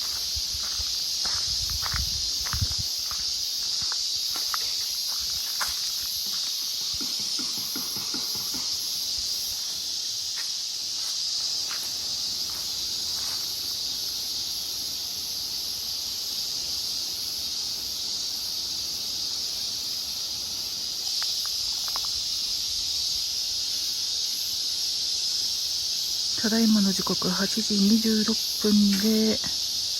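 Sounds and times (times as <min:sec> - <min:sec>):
cicadas droning: 0:00.0 - 0:29.9.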